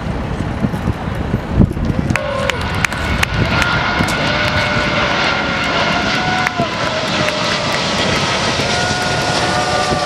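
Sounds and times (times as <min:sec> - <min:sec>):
jet engines rushing and whining: 0:00.0 - 0:10.0.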